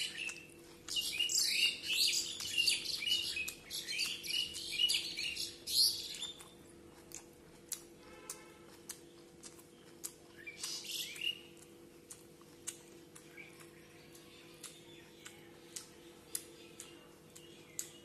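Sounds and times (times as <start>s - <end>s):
birds chirping: 0.0s - 7.0s, 8.7s - 18.0s
chewing and lip smacking: 0.0s - 18.0s
steady low hum: 0.0s - 18.0s.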